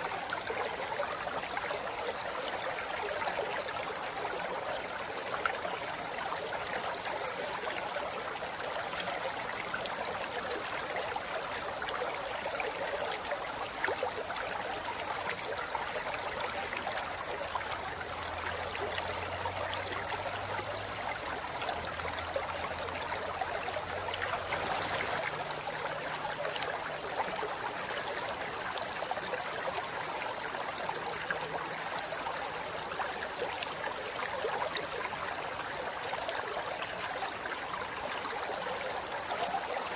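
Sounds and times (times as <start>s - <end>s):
river flowing over rocks: 0.1s - 39.9s.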